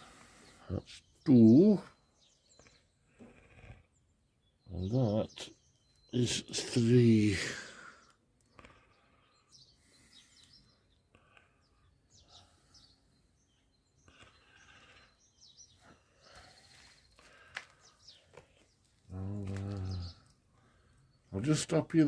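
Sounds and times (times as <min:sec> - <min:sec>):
faint bird chirps: 0:00.0 - 0:21.6.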